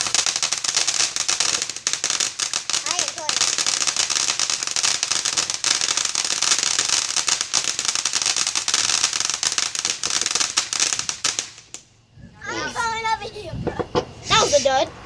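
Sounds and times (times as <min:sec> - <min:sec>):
firework crackling pops: 0:00.0 - 0:12.1, 0:12.7 - 0:14.6
steady hiss: 0:00.0 - 0:15.0.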